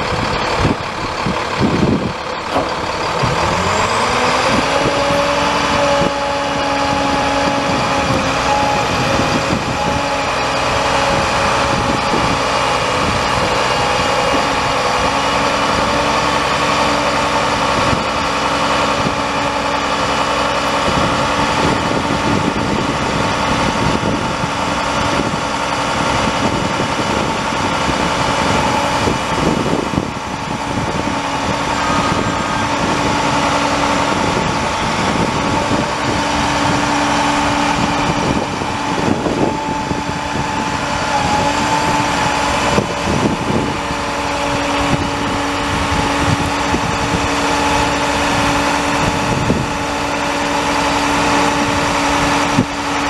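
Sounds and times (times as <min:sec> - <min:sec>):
diesel truck engine running: 0:00.0 - 0:53.0
engine whine: 0:00.0 - 0:53.0.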